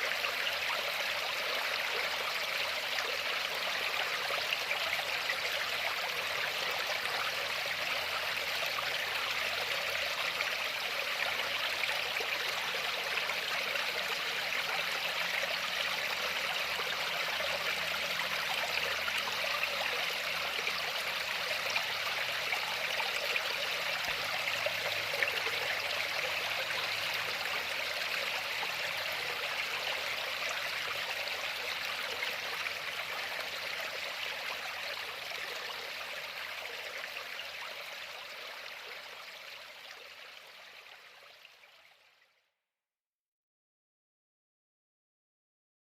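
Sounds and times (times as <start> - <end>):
stream water rushing and trickling: 0.0 - 42.2.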